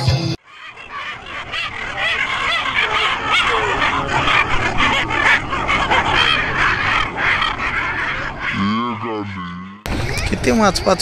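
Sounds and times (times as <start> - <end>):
chorus of animal cries: 0.4 - 10.3.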